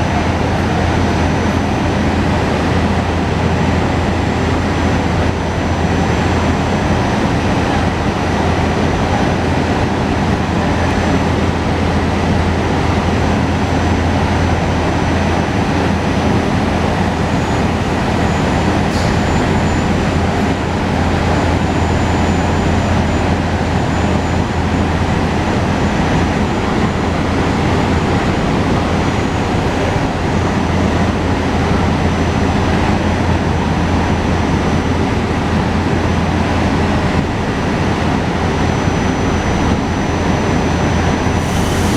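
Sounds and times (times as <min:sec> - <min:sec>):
electric train rumble and hum: 0:00.0 - 0:41.9.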